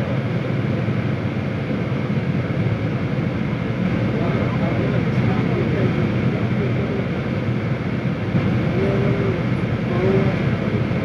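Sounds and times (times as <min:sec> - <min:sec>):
vehicle driving rumble from cabin: 0:00.0 - 0:11.0.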